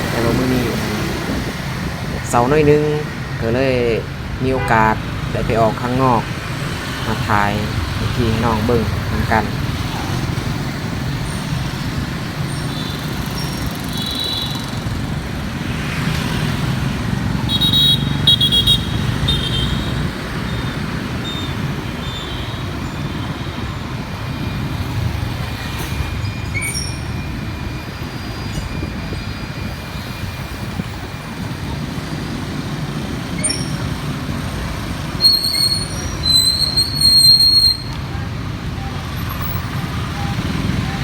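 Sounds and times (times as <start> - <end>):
motorbike engine and road noise: 0.0 - 41.0.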